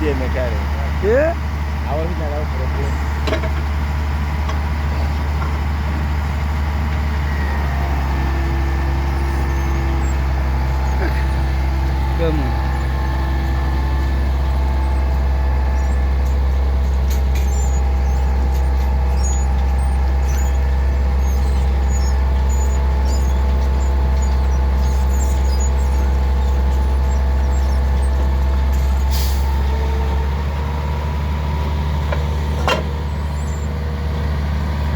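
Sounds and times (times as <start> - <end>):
low engine drone: 0.0 - 34.9.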